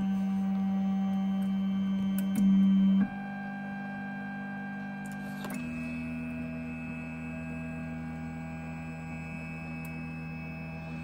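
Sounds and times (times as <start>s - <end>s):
printer motor hum: 0.0s - 11.0s.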